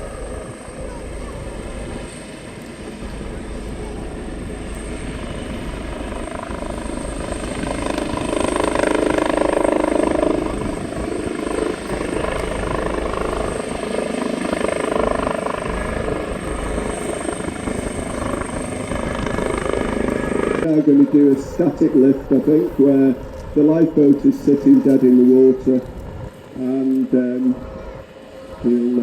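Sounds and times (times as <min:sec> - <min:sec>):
helicopter flying overhead: 0:00.0 - 0:29.0.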